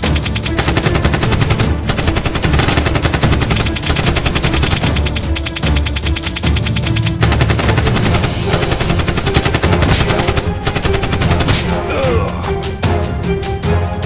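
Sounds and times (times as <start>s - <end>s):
rapid automatic gunfire: 0.0s - 11.8s
background music: 0.0s - 14.0s.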